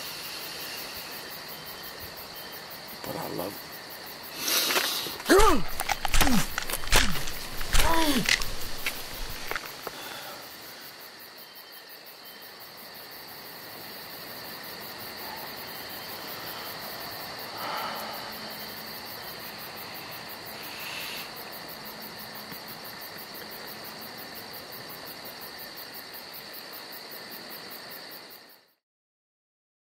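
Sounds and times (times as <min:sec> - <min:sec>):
night insects trilling: 0:00.0 - 0:28.8.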